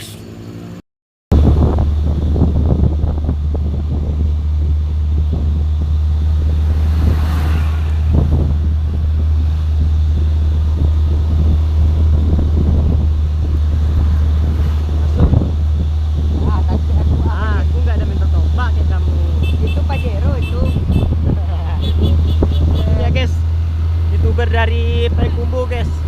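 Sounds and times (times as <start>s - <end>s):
road noise: 0.0s - 26.0s
vehicle engine drone: 0.0s - 26.0s
wind buffeting microphone: 1.3s - 26.0s.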